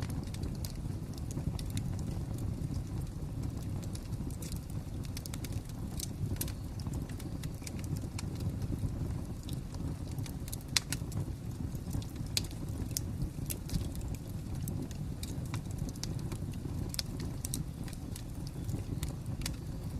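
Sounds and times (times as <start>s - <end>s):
fire low rumble: 0.0s - 19.9s
fire pops and snaps: 0.0s - 19.9s.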